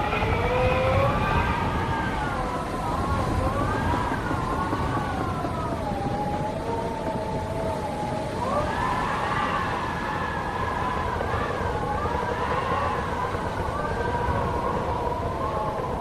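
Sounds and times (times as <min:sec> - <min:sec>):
howling wind: 0:00.0 - 0:16.0.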